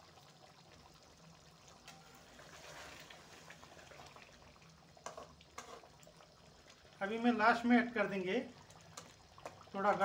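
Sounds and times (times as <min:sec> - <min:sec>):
curry simmering with bubbling pops: 0:00.0 - 0:10.0.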